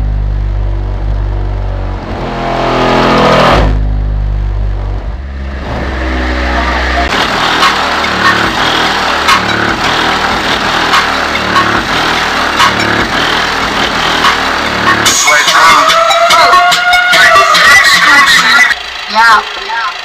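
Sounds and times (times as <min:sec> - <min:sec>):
bass-heavy music through subwoofer: 0:00.0 - 0:19.8.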